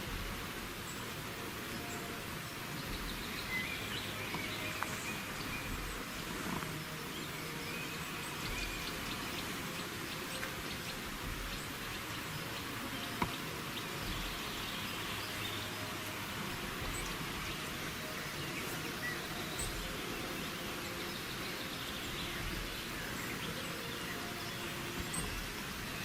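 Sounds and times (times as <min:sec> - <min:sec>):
birds chirping: 0:00.0 - 0:26.0
mountain stream rushing: 0:00.0 - 0:26.0.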